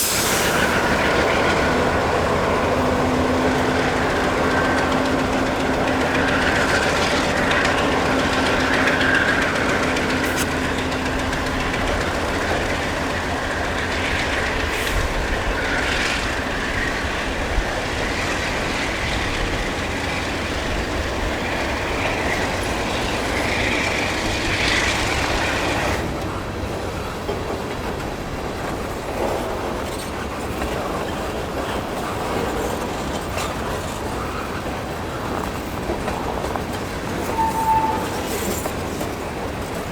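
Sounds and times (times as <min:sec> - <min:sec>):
high wheel squeal: 0:00.0 - 0:26.0, 0:30.8 - 0:39.9
train wheels clacking: 0:00.0 - 0:39.9.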